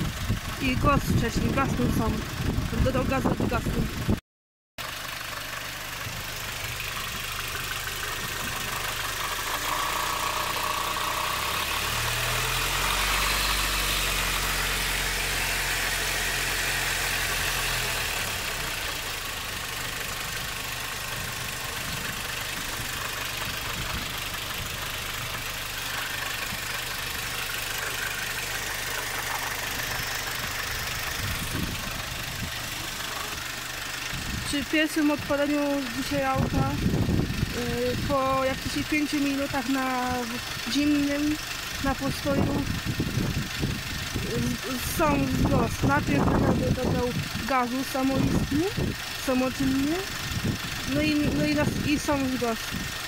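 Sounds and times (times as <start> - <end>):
car engine idling and revving: 0.0 - 4.2, 4.8 - 53.0.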